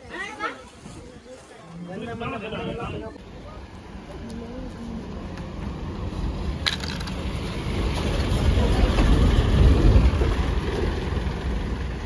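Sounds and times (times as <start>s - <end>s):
bus engine rumbling: 2.2s - 12.0s.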